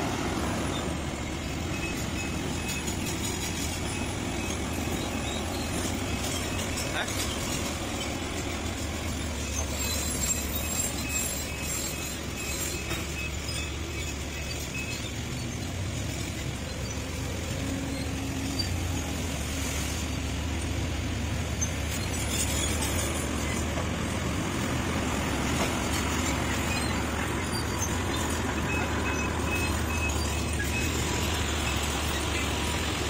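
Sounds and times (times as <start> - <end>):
excavator diesel engine droning: 0.0 - 33.0.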